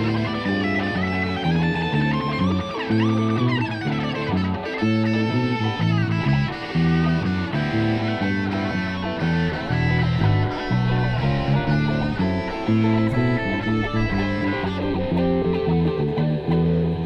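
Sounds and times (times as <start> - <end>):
bass guitar line: 0.0 - 17.0
electric guitar lead with bends: 0.0 - 17.0.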